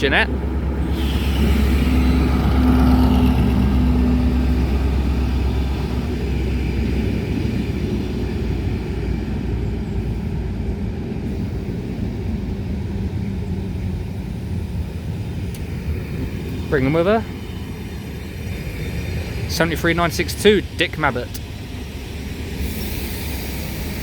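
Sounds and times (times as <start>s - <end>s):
locomotive engines rumbling: 0.0s - 24.0s.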